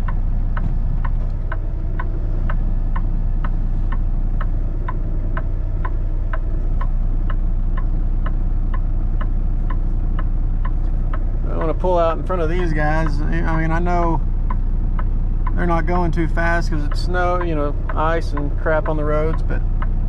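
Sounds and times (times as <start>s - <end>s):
diesel engine humming: 0.0s - 20.0s
turn-signal flasher ticking: 0.0s - 20.0s.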